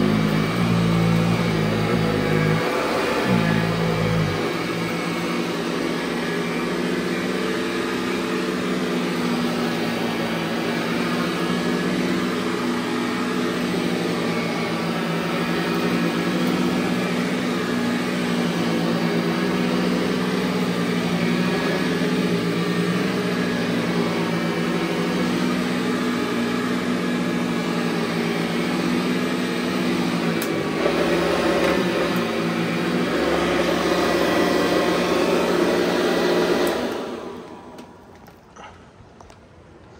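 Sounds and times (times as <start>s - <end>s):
vacuum cleaner motor hum: 0.0s - 38.8s.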